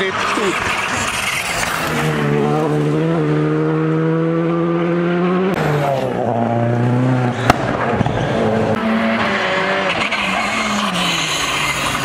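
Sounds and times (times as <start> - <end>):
rally car engine accelerating: 0.0 - 12.0
rally car engine at high revs: 0.0 - 12.0.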